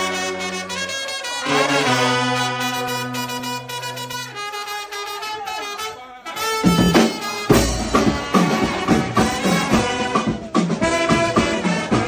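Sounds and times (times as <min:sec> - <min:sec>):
brass music with drums: 0:00.0 - 0:12.0.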